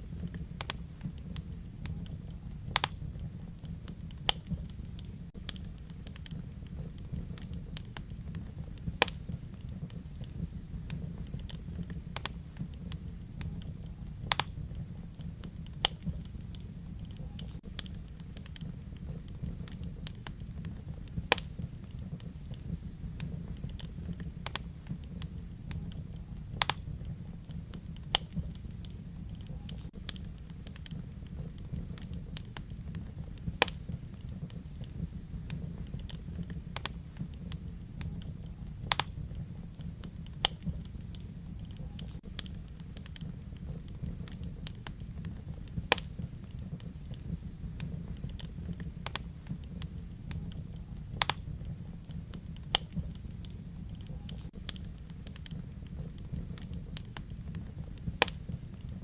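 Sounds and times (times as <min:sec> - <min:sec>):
fire crackles and pops: 0:00.0 - 0:59.0
flames rumbling: 0:00.0 - 0:59.0.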